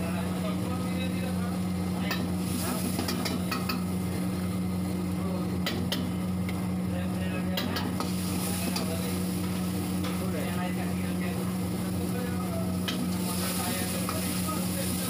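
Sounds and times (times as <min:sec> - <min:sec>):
food sizzling in a wok: 0:00.1 - 0:15.0.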